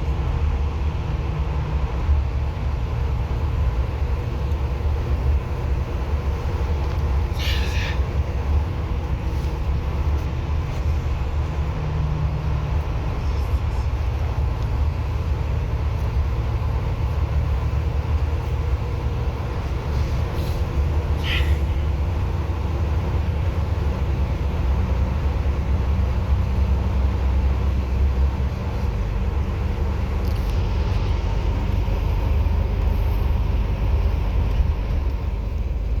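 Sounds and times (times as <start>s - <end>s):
bus engine and road rumble: 0.0s - 36.0s.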